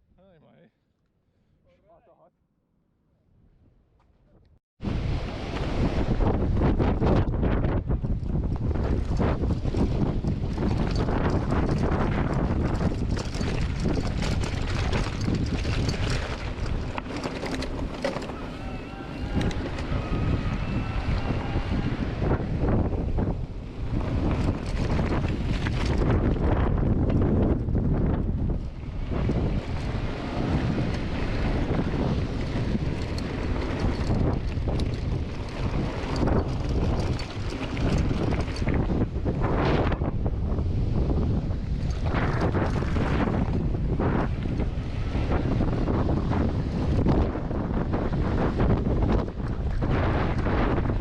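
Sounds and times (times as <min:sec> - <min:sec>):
gusty wind on microphone: 0:04.8 - 0:51.0.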